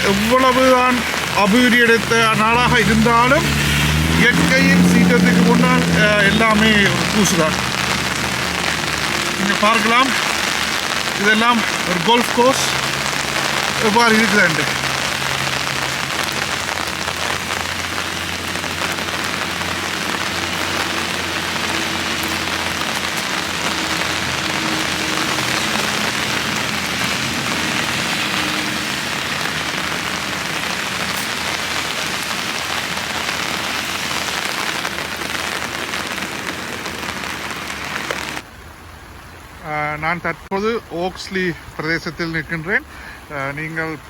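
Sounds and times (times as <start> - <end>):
heavy rain on hard surface: 0.0 - 44.0.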